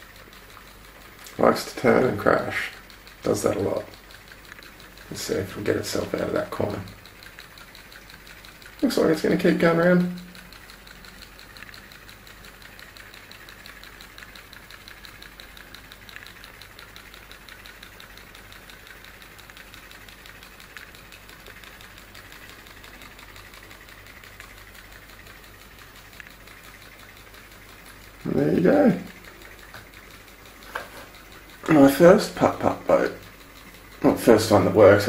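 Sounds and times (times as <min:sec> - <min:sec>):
pop-pop boat ticking putt-putt: 0:00.0 - 0:35.0.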